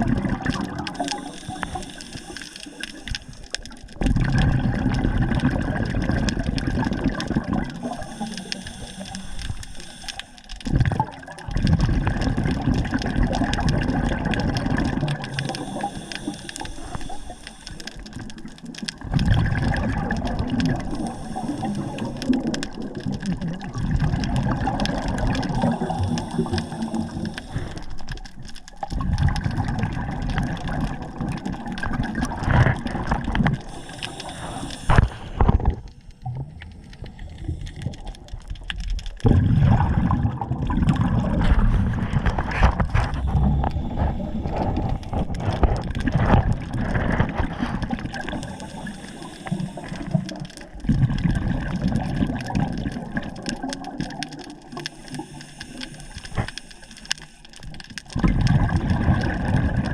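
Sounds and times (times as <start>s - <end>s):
water sloshing and gurgling: 0.0s - 59.9s.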